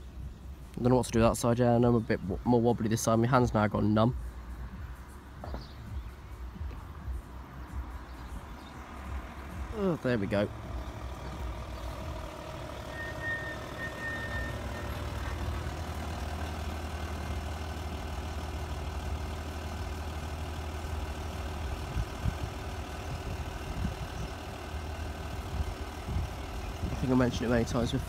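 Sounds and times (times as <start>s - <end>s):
large engine idling: 4.2s - 28.0s.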